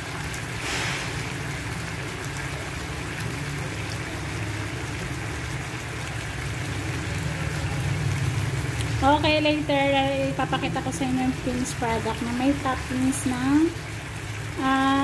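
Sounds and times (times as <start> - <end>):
shrimp sizzling in a frying pan: 0.0 - 15.0.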